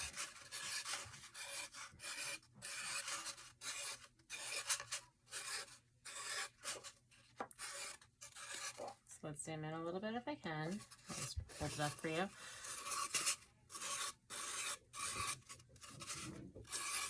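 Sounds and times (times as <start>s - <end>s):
marker scratching on tube: 0.0s - 9.0s, 10.6s - 17.0s.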